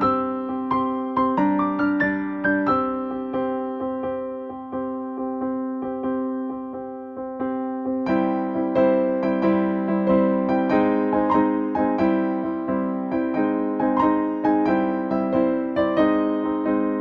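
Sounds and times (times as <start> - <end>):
electric piano music: 0.0 - 17.0.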